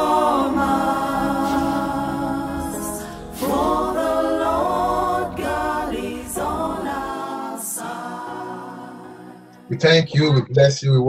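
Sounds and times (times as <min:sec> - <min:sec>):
group singing gospel song: 0:00.0 - 0:10.0.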